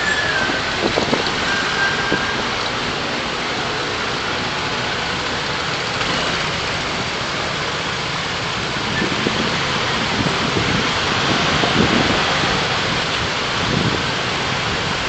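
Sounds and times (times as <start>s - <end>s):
car engine: 0.0s - 15.0s
road noise: 0.0s - 15.0s
steady hiss of rain: 0.0s - 15.0s.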